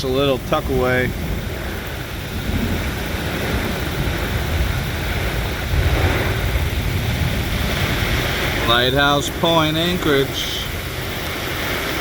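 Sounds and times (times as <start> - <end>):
driving rain hiss: 0.0 - 12.0
wind buffeting microphone: 0.0 - 12.0.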